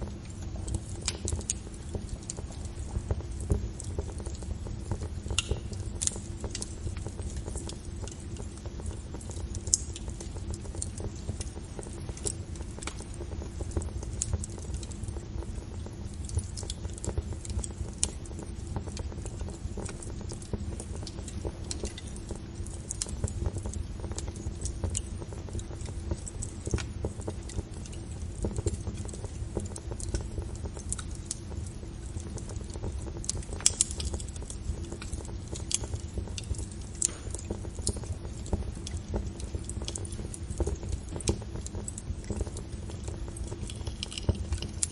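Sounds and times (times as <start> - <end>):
wood fire crackling: 0.0 - 44.9
loud fire pops: 0.5 - 44.9.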